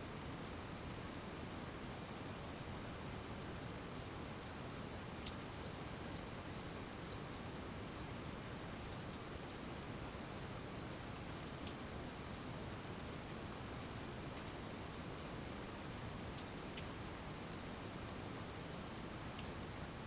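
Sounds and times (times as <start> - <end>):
steady rain hiss: 0.1 - 20.0.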